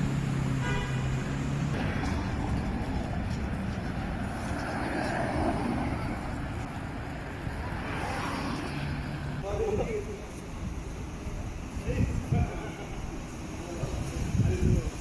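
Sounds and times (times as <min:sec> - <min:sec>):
tyre noise: 0:00.0 - 0:12.5
car engines running: 0:00.0 - 0:15.0
steady engine hum: 0:00.0 - 0:15.0.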